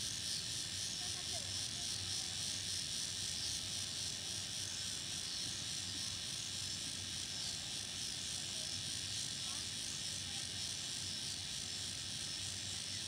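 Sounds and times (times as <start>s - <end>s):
cicadas and insects chirring: 0.0s - 13.0s.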